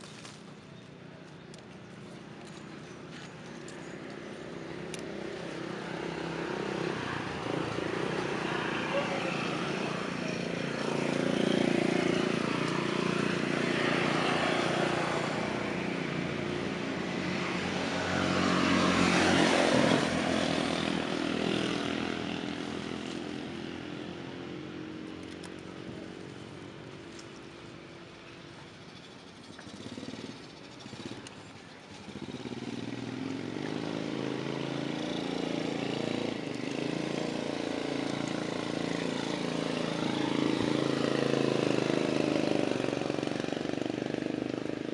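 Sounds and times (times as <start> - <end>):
passing vehicle engine: 3.2 - 26.7, 29.0 - 44.9.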